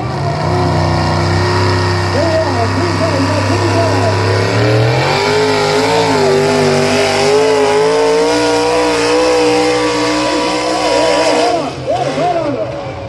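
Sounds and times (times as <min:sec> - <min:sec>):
engine running at high revs: 0:00.0 - 0:13.0.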